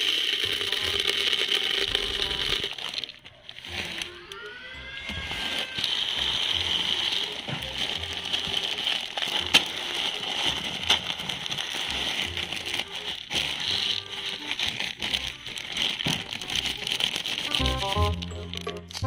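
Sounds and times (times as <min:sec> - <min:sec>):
pellets pouring into bucket: 0:00.0 - 0:19.0
background music: 0:00.1 - 0:19.0.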